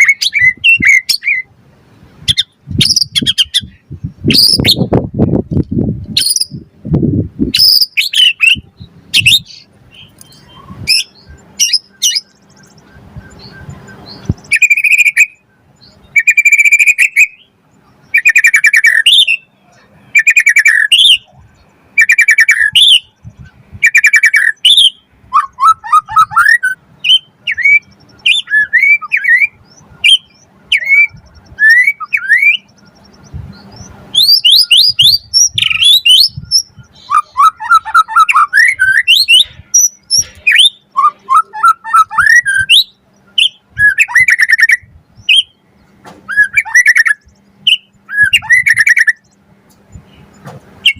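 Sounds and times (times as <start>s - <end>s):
bird singing: 0.0s - 5.0s, 6.1s - 6.7s, 7.5s - 50.9s.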